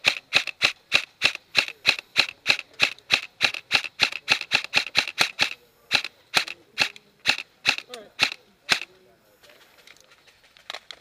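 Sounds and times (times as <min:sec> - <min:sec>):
airsoft rifle firing: 0:00.0 - 0:08.9.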